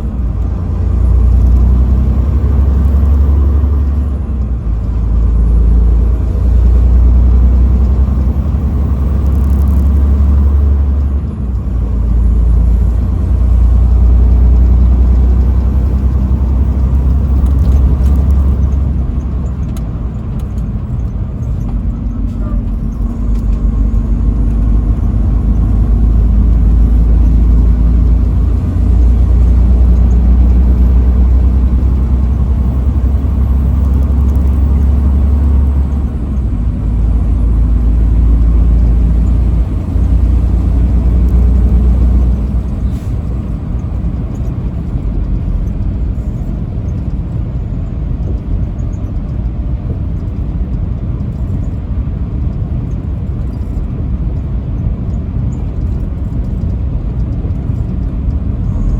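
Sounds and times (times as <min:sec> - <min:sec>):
truck engine and road rumble: 0:00.0 - 0:58.9.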